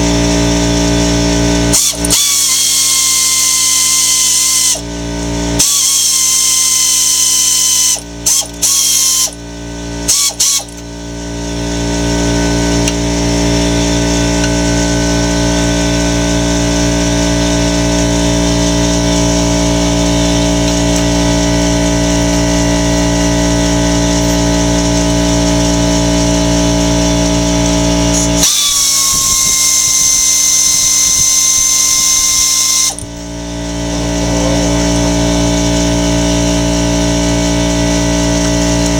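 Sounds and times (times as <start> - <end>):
power tool motor with gear whine: 0.0 - 38.9.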